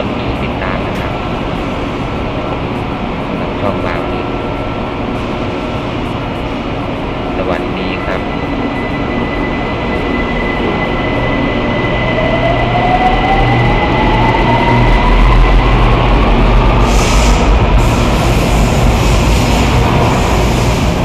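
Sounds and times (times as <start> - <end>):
electric train motor whine: 0.0 - 21.0
wheels rumbling on rail: 0.0 - 21.0.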